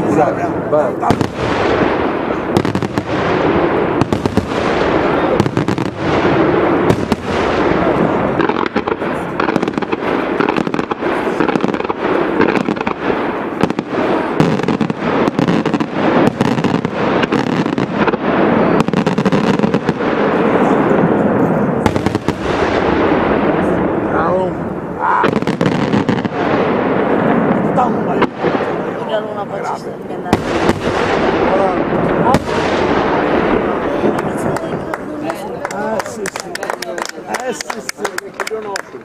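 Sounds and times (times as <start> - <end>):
fireworks bursts: 0.0 - 39.0.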